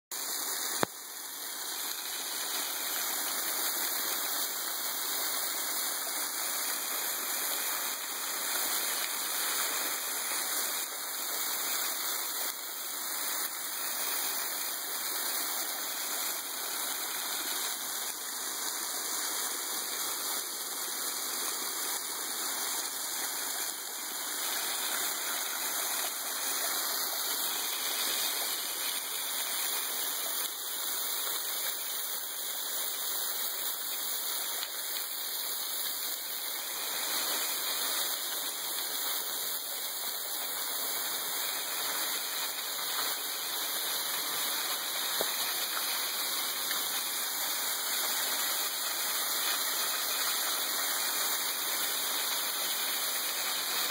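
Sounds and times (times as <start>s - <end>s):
waterfall rushing: 0.2s - 53.9s.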